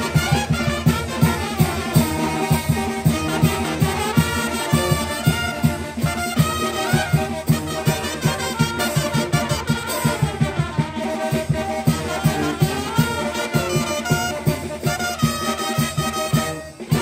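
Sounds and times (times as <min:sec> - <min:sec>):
trumpets playing melody: 0:00.0 - 0:17.0.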